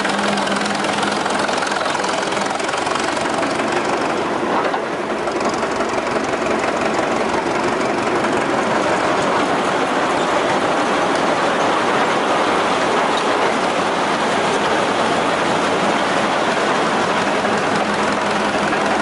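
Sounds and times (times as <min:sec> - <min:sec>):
dragline engine clattering: 0:00.0 - 0:19.0.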